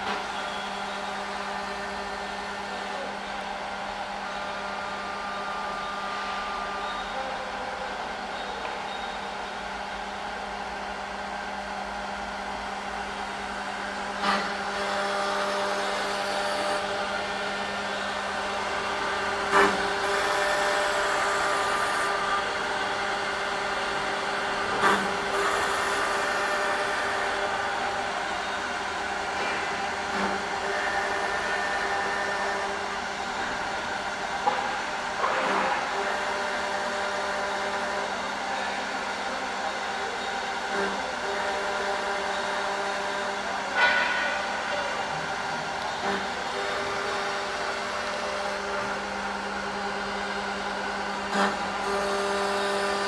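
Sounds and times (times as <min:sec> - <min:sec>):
drilling machine motor hum: 0:00.0 - 0:53.0.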